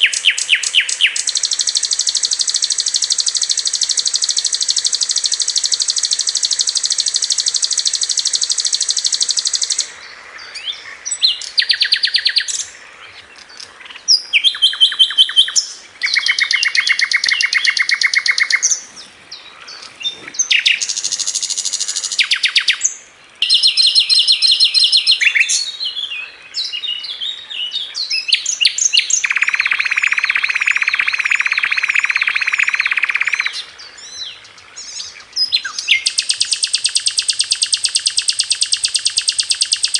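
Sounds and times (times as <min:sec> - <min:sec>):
flycatcher trilling song: 0:00.0 - 0:39.9.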